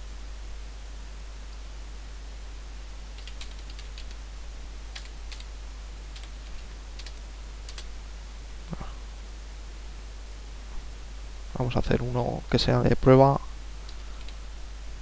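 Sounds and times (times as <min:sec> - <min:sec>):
background hiss and hum: 0:00.0 - 0:15.0.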